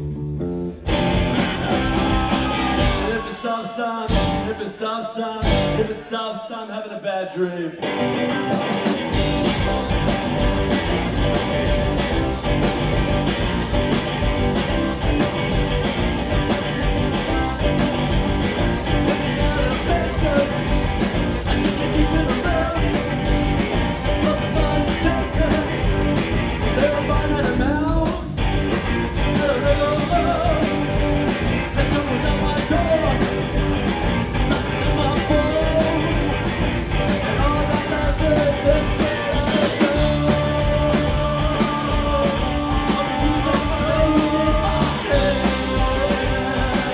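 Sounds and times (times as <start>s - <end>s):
live rock band playing: 0.5s - 4.6s, 5.4s - 6.0s, 7.8s - 46.9s.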